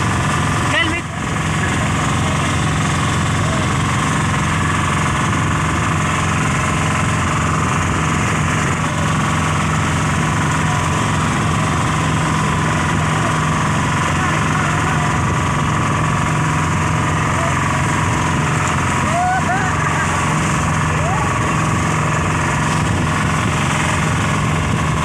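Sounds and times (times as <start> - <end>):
boat engine droning: 0.0 - 25.0
water splashing along hull: 0.0 - 25.0.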